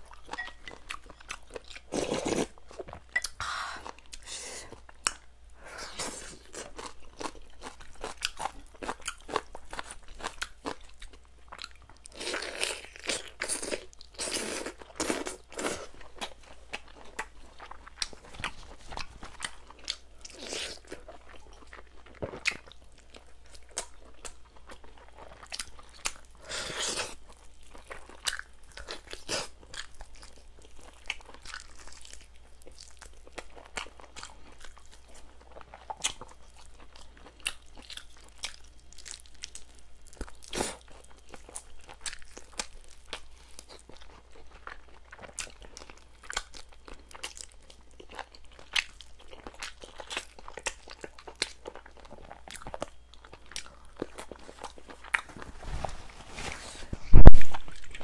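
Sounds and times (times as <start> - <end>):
crunchy chewing of chicken: 6.0 - 55.6.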